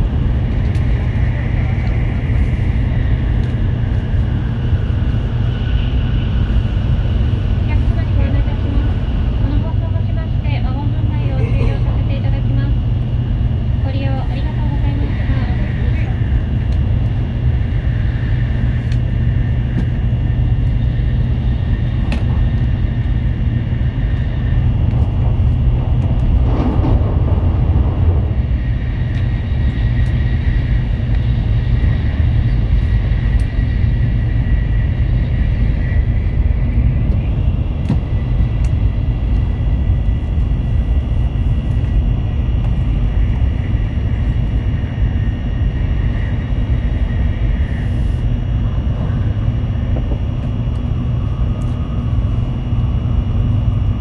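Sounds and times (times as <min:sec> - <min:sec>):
train running gear rumble: 0:00.0 - 0:54.0.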